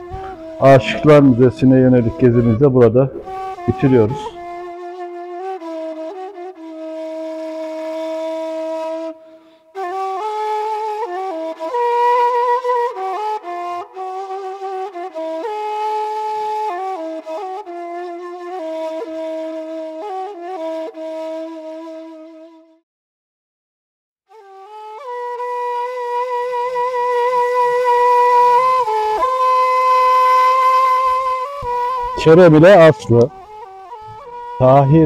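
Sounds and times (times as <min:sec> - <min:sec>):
slow flute-like melody: 0:00.0 - 0:22.8, 0:24.3 - 0:35.0.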